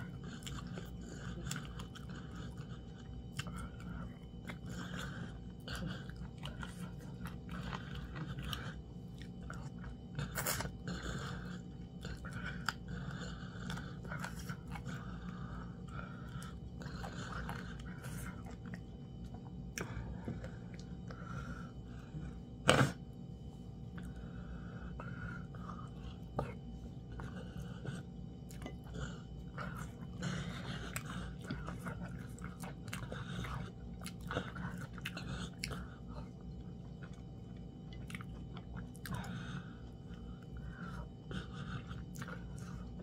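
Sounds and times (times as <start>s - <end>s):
person chewing: 0.0s - 43.0s.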